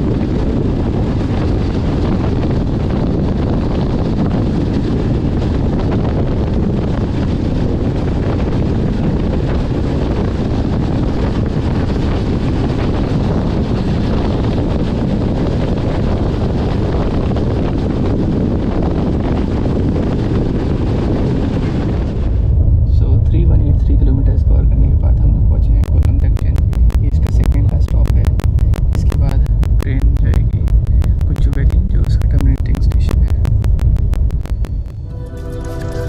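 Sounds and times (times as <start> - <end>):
wind on microphone: 0.0 - 35.2.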